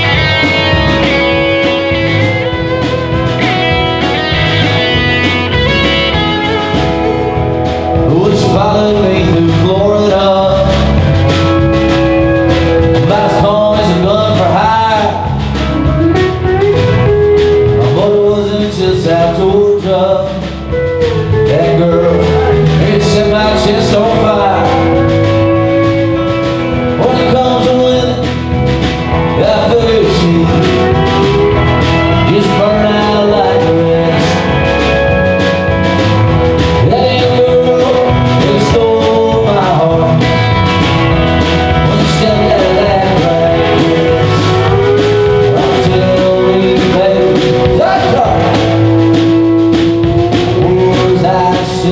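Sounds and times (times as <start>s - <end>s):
country rock band playing: 0.0s - 51.9s
sliding lead guitar melody: 0.0s - 51.9s.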